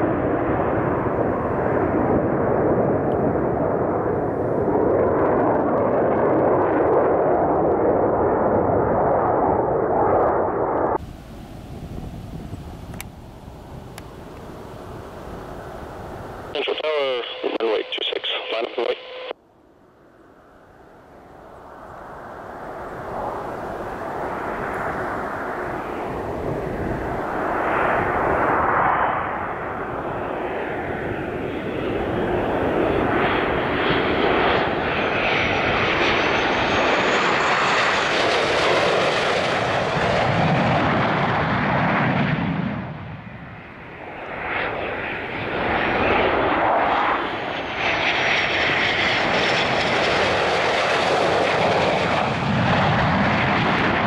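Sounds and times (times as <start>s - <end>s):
jet engines with high whine: 0.0s - 54.0s.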